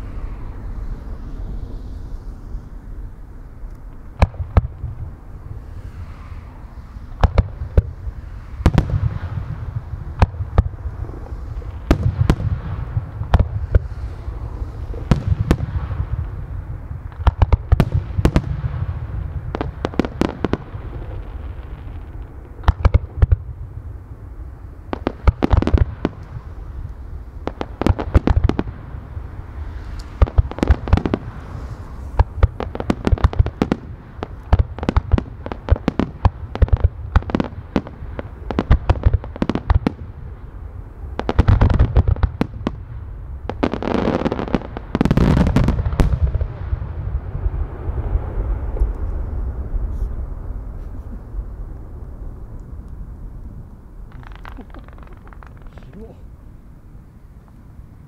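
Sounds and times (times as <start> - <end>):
fireworks bursting: 3.9 - 56.3.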